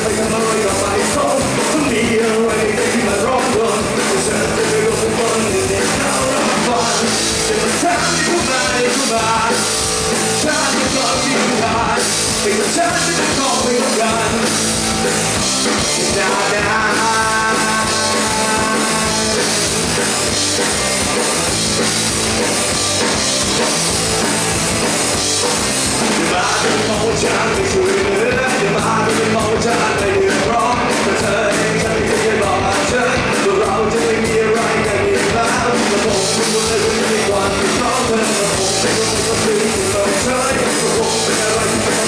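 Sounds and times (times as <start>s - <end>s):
live rock band playing: 0.0s - 42.0s.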